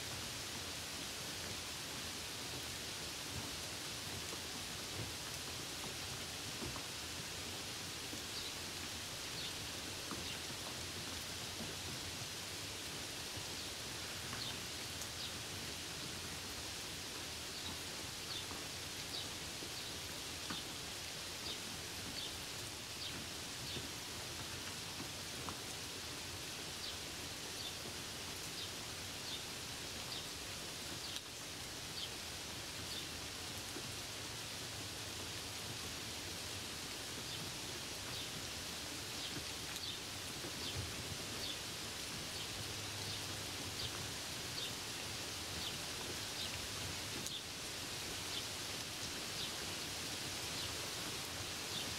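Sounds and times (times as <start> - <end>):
rain falling on leaves: 0.0 - 51.9.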